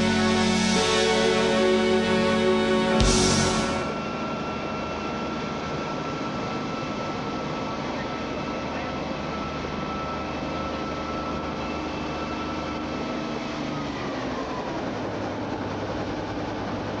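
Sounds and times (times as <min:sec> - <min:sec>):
helicopter engine and rotor whine: 0:00.0 - 0:17.0.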